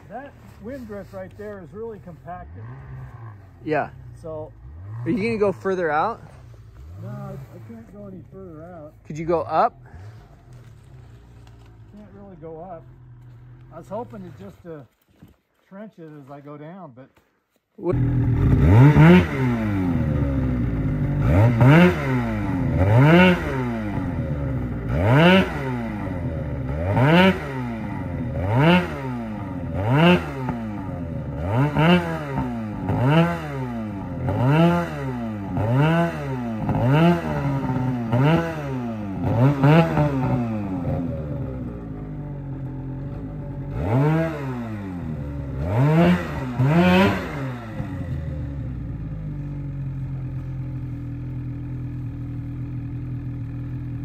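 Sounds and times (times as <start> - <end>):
snowmobile engine revving: 0.0 - 14.8, 17.9 - 50.5.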